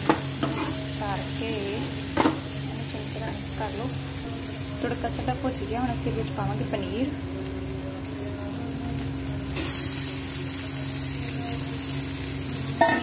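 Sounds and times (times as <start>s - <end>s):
food sizzling in a hot pan: 0.0s - 13.0s.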